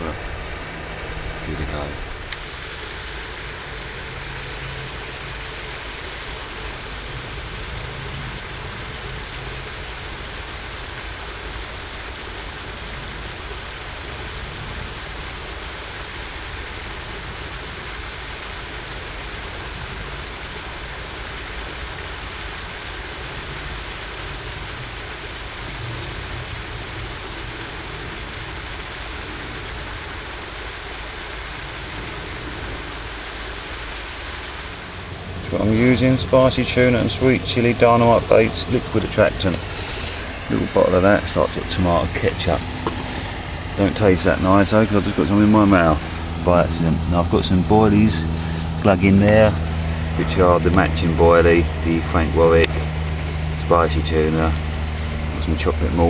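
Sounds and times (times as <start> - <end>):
fountain splashing: 0.0 - 56.0
low rumble: 0.0 - 56.0.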